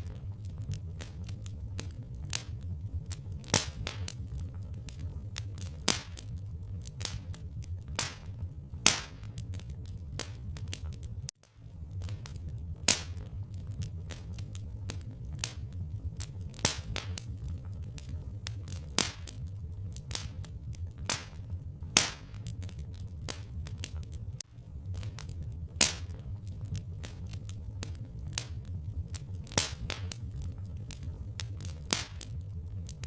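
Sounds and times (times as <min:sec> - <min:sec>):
loud fire pops: 0:00.0 - 0:33.0
low rumble: 0:00.0 - 0:33.0
wood fire crackling: 0:00.0 - 0:33.0.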